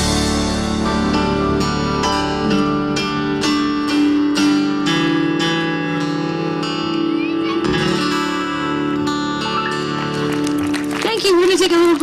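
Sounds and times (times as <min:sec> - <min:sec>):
acoustic guitar strumming: 0:00.0 - 0:11.7.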